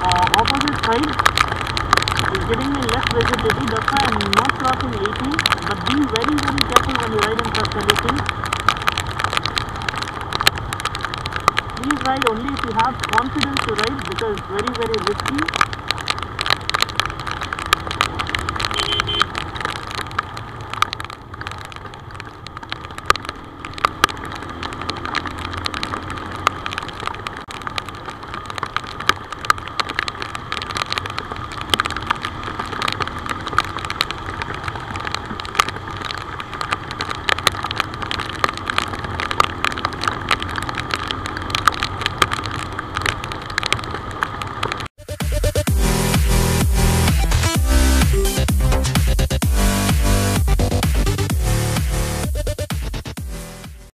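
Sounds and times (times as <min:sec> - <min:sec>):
rush of riding wind: 0:00.0 - 0:44.9
motorcycle engine hum: 0:00.0 - 0:53.8
raindrops ticking on camera: 0:00.0 - 0:53.9.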